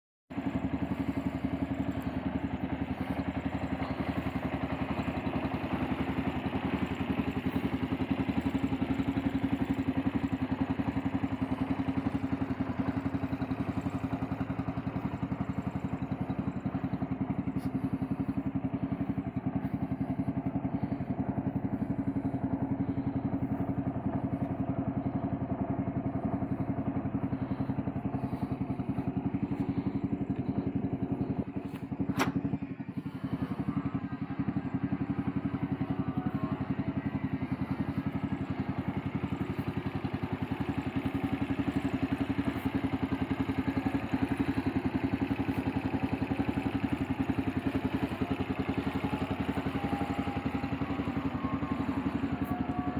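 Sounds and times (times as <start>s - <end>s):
tricycle engine idling: 0.3s - 52.9s.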